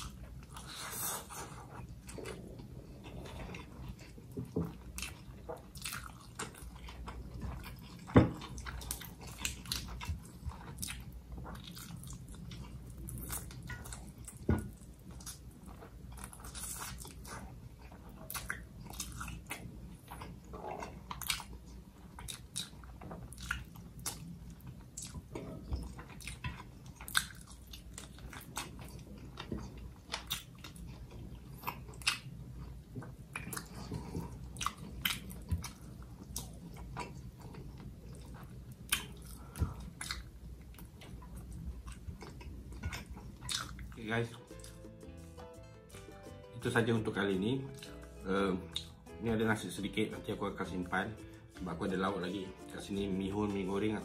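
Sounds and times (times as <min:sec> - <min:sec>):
person chewing and crunching: 0:00.0 - 0:46.2, 0:47.6 - 0:49.2.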